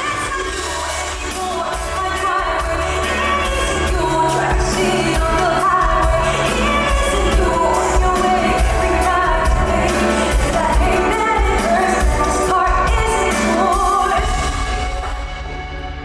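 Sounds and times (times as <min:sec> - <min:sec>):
woman singing: 0:00.0 - 0:15.2.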